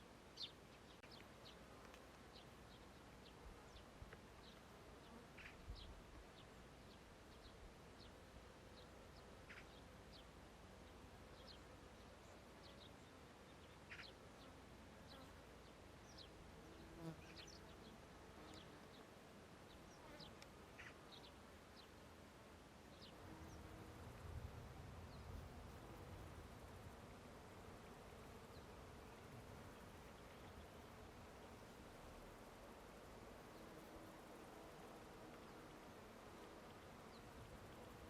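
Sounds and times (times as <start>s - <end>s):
low buzz of flying insect: 0.0s - 38.0s
insects buzzing: 0.4s - 38.0s.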